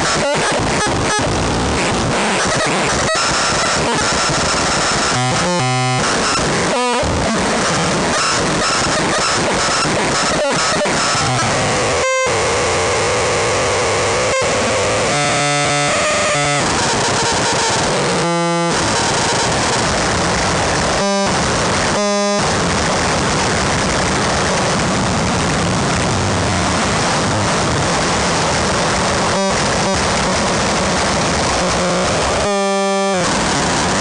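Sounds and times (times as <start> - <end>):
distorted electronic noise: 0.0 - 34.0
stuttering glitches with buzzing tone: 0.0 - 34.0.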